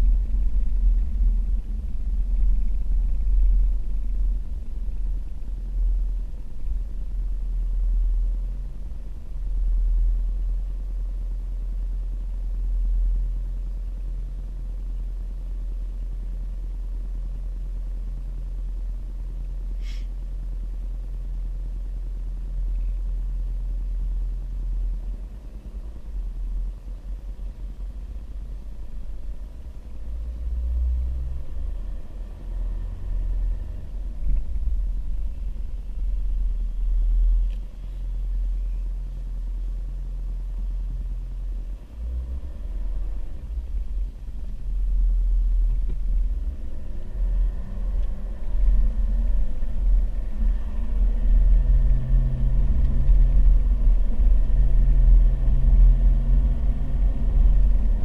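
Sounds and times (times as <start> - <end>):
engine low rumble: 0.0 - 58.0.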